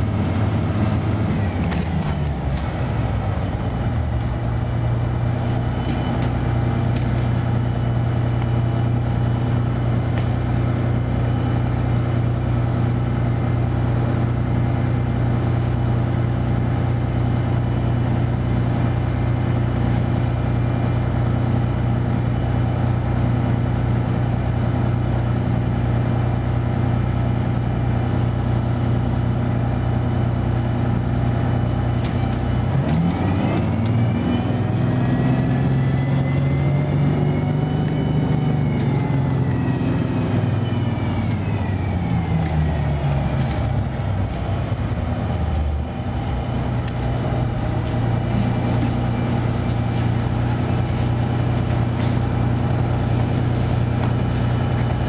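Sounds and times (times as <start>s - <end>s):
bus engine idling and revving: 0.0s - 55.0s.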